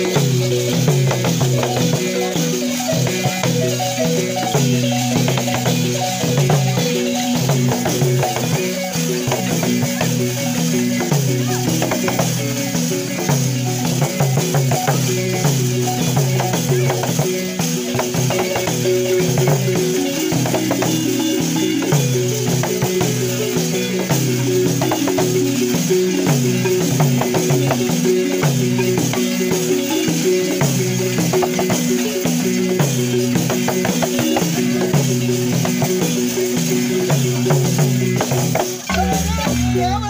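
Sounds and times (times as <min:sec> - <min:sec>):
balafon melody: 0:00.0 - 0:40.0
gourd drums: 0:00.0 - 0:40.0
shaker rattles: 0:00.0 - 0:40.0.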